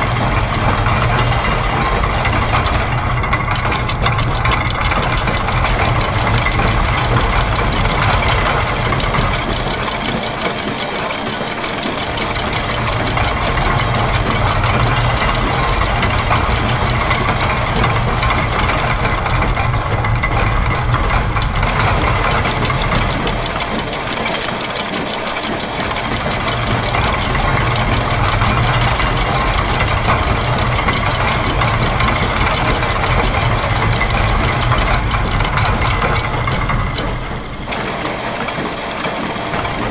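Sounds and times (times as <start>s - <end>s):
low mechanical rumble: 0.0s - 10.2s, 12.0s - 24.3s, 25.9s - 37.8s
gears turning: 0.0s - 39.9s
machine press: 0.0s - 39.9s
sewing machine: 0.0s - 39.9s.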